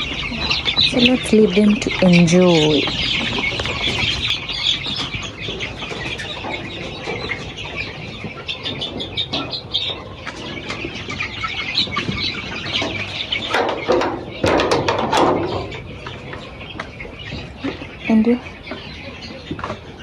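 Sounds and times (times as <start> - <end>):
chicks cheeping: 0.0 - 20.0.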